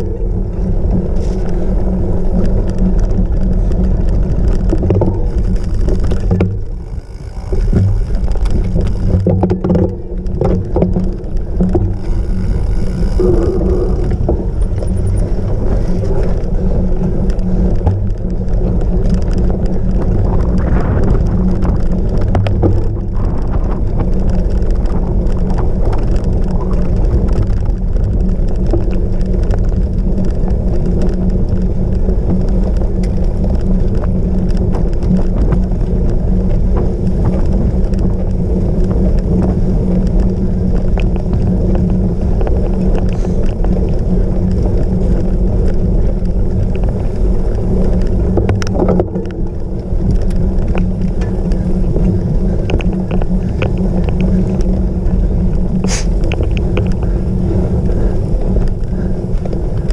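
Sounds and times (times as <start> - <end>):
bike riding over rough ground: 0.0 - 59.9
small rattles and knocks: 0.0 - 59.9.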